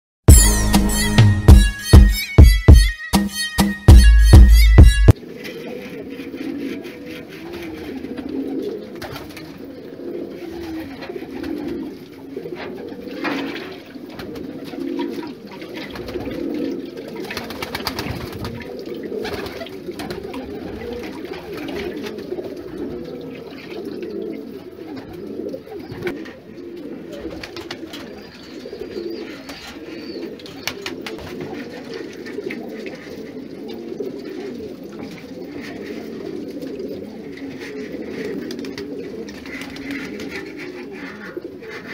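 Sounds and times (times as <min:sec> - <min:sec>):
pigeons cooing: 0:05.1 - 0:41.9.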